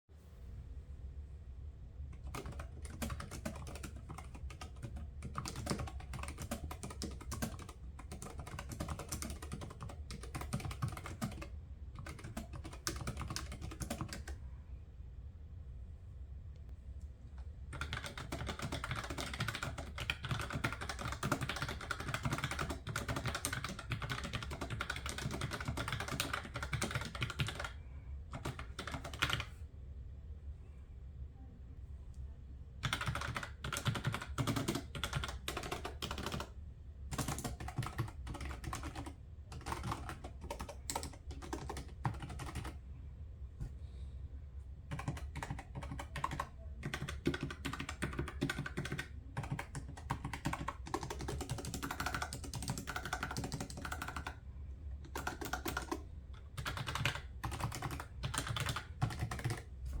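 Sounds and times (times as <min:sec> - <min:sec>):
computer keyboard typing: 0:02.2 - 0:14.4, 0:17.7 - 0:29.6, 0:32.8 - 0:42.8, 0:44.9 - 0:54.4, 0:55.0 - 1:00.0.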